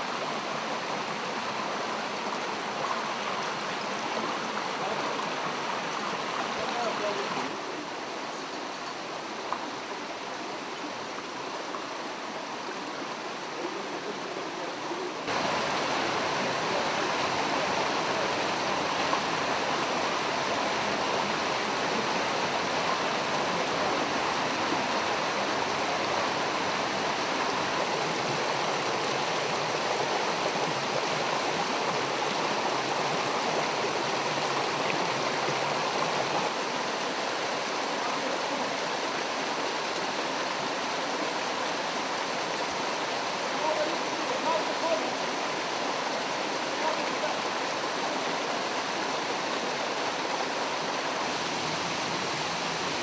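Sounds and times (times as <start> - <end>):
stream running over rocks: 0.0 - 53.0.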